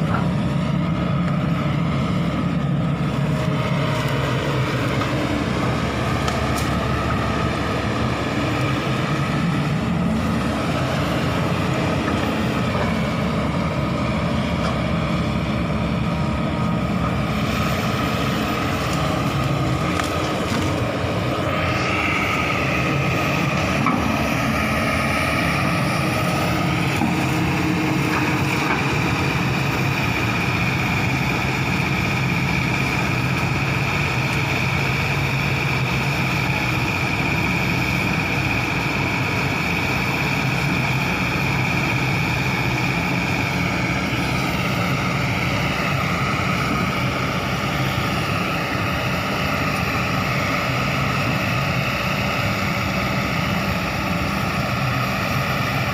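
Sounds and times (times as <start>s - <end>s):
excavator diesel engine running: 0.0s - 55.9s
high steady whine: 0.0s - 55.9s.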